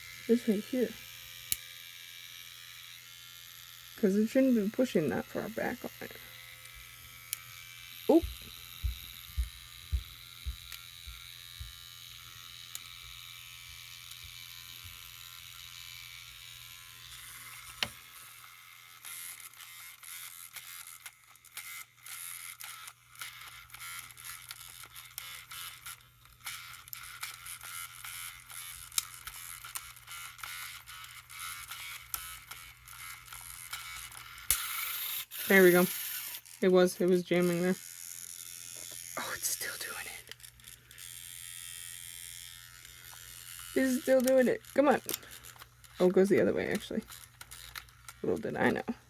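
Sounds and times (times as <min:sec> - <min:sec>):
small electric motor running: 0:00.0 - 0:49.0.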